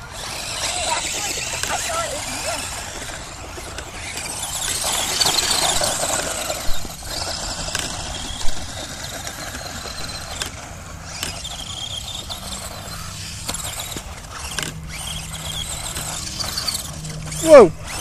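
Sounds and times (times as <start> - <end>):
electric motor whine: 0.0 - 18.0
tyres scrabbling on dirt: 0.0 - 18.0.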